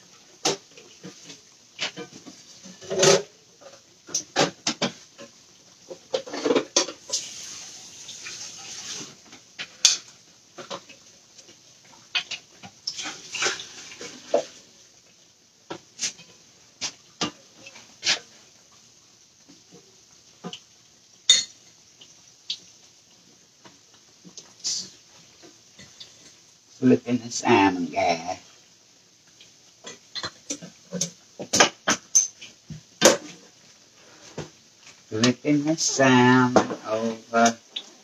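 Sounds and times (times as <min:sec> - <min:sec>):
patties frying in oil: 0:00.0 - 0:38.0.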